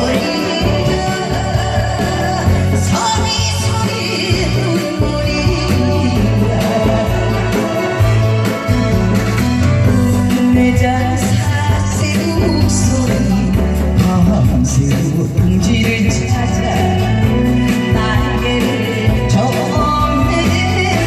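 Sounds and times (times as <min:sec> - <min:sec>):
trot music with drum beat: 0:00.0 - 0:21.0.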